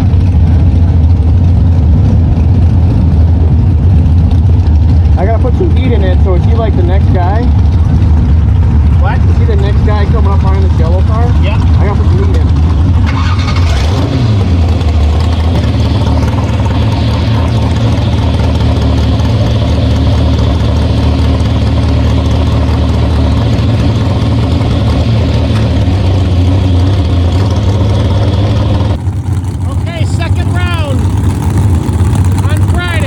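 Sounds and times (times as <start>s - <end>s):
race car engine idling loudly: 0.0s - 33.0s
engine revving: 5.1s - 33.0s.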